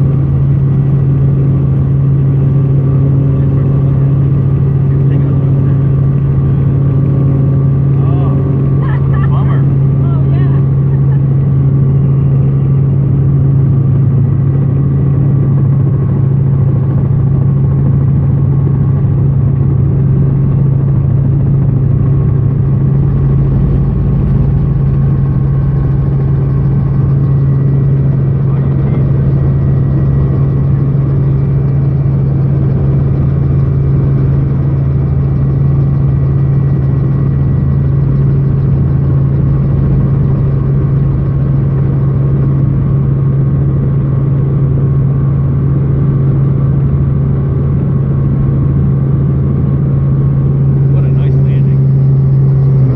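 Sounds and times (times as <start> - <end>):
helicopter droning: 0.0 - 52.9.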